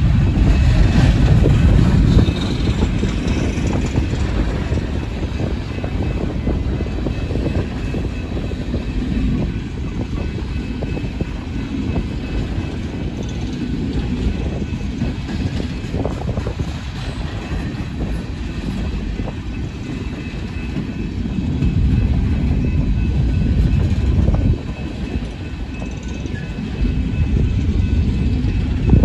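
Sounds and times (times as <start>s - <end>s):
freight cars rumbling on rails: 0.0s - 29.0s.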